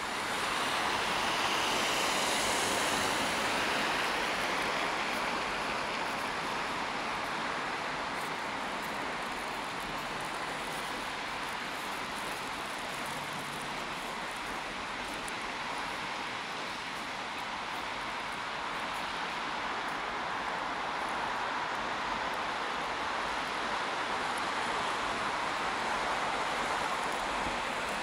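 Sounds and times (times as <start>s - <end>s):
city road traffic: 0.0s - 28.0s.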